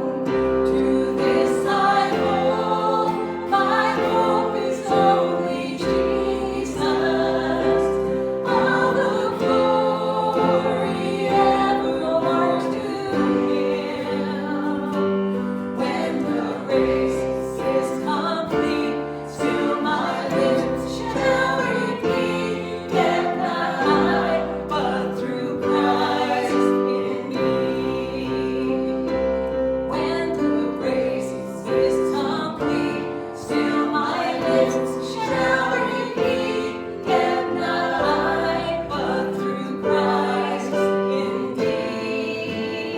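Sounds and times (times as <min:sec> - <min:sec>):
voices singing together: 0:00.0 - 0:42.9.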